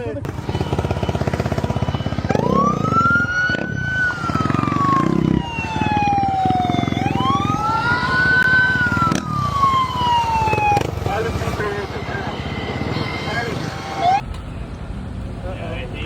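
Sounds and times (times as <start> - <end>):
motorcycle engine running: 0.2 - 14.0
vehicle siren wailing: 0.2 - 14.2.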